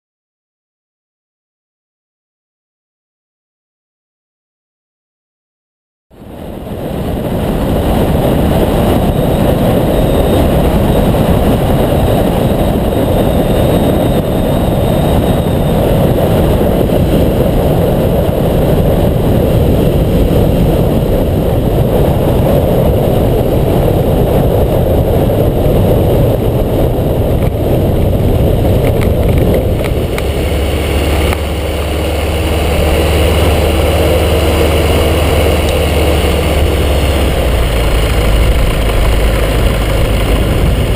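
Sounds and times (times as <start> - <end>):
wind rush on microphone: 6.1 - 40.9
microlight engine running: 6.2 - 40.9.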